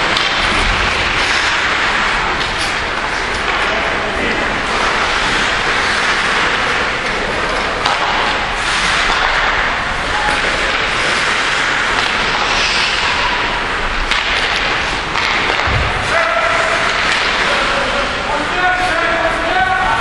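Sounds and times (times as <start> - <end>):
skates scraping ice: 0.0 - 20.0.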